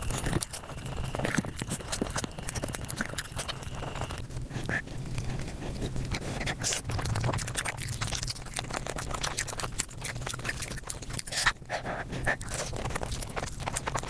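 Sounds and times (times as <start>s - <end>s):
fast chewing and mouth clicks: 0.0s - 14.0s.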